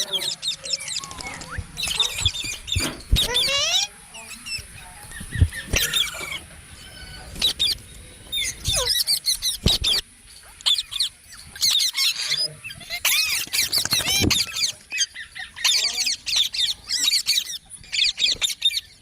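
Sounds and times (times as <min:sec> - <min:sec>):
parrots chirping and squeaking: 0:00.0 - 0:19.0.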